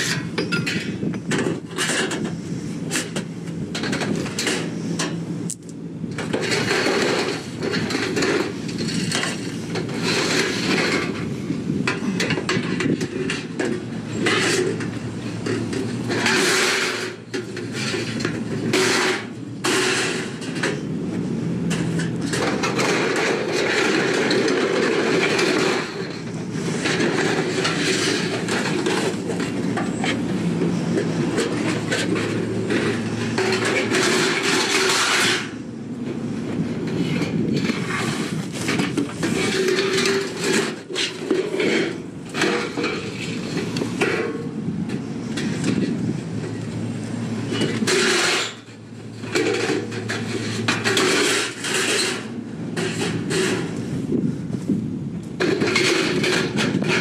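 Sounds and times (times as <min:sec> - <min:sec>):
metal objects clattering: 0:00.0 - 0:05.2, 0:06.2 - 0:21.0, 0:21.6 - 0:46.6, 0:47.4 - 0:54.0, 0:55.4 - 0:57.0.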